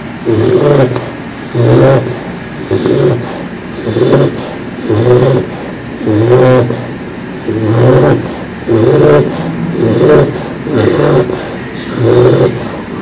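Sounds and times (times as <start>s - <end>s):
puppy snoring: 0.2s - 13.0s.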